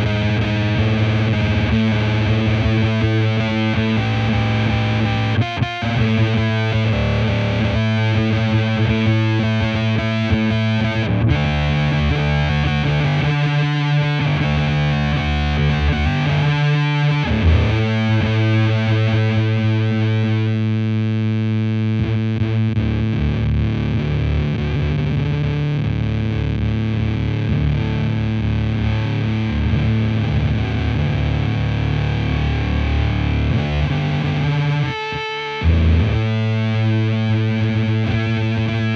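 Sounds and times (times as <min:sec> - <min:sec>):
fuzzed electric guitar chords: 0:00.0 - 0:38.9.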